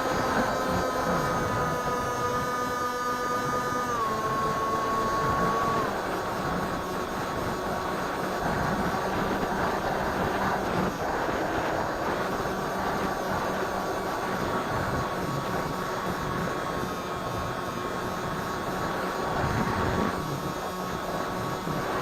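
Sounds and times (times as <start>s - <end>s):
electric motor whine: 0.0s - 22.0s
wind noise: 0.0s - 22.0s.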